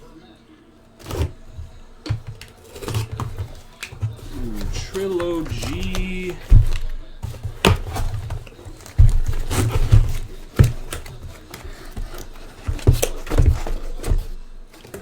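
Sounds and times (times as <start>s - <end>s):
cardboard boxes knocking and scraping: 1.0s - 15.0s.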